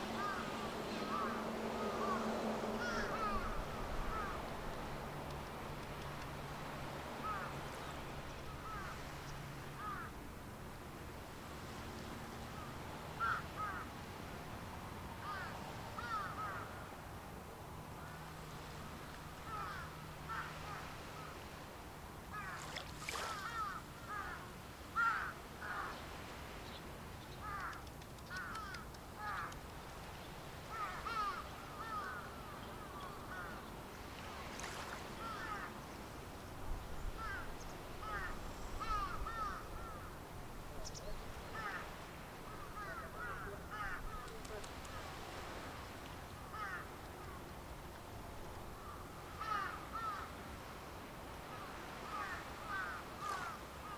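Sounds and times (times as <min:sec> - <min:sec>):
birds calling: 0:00.0 - 0:06.4, 0:07.2 - 0:10.2, 0:12.5 - 0:13.9, 0:15.2 - 0:16.7, 0:18.0 - 0:21.4, 0:22.3 - 0:47.6, 0:48.8 - 0:50.4, 0:51.5 - 0:53.9
faint steady background noise: 0:00.0 - 0:53.9.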